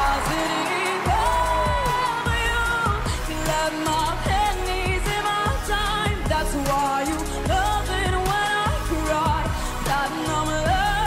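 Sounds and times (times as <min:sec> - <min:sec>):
backing track: 0:00.0 - 0:11.0
girl singing pop song: 0:00.0 - 0:11.0.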